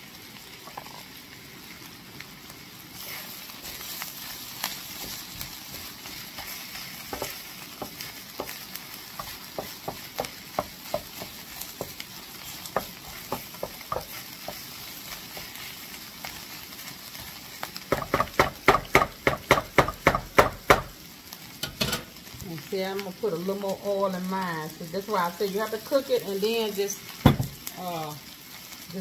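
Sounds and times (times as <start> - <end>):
food sizzling in a skillet: 0.0 - 29.0.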